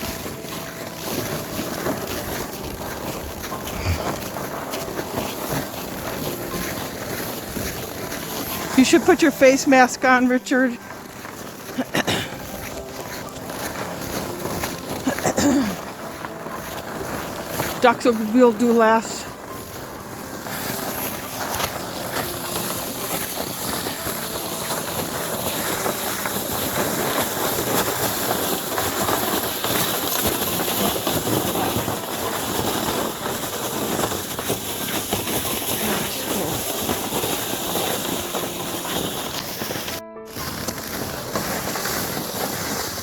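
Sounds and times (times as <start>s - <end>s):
footsteps crunching on frozen snow: 0.0s - 43.0s.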